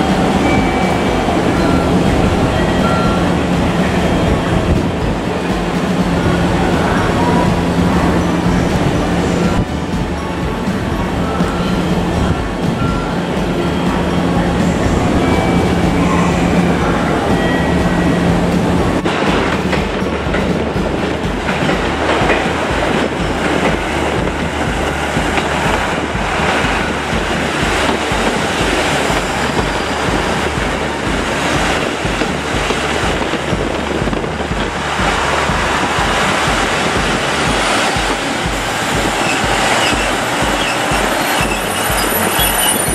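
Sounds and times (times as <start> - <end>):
diesel train engines running: 0.0 - 42.9
train wheels clacking over rail joints: 0.0 - 42.9.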